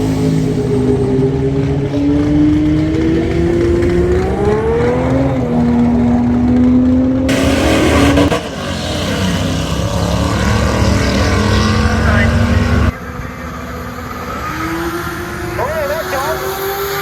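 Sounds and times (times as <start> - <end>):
drag car engine accelerating: 0.0 - 17.0.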